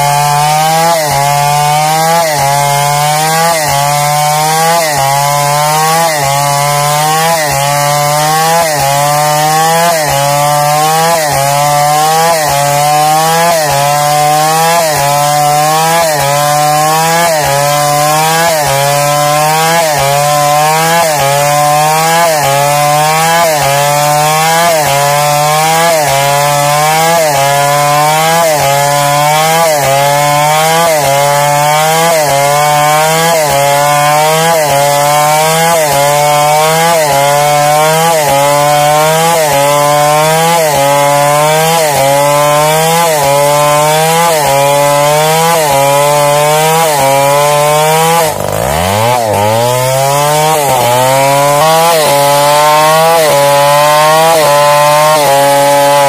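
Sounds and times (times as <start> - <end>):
chainsaw cutting log under load: 0.0 - 56.0.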